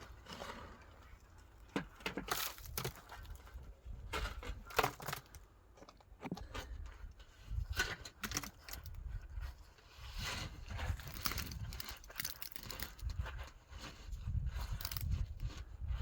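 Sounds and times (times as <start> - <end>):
knocks and scrapes of building work: 0.0 - 16.0.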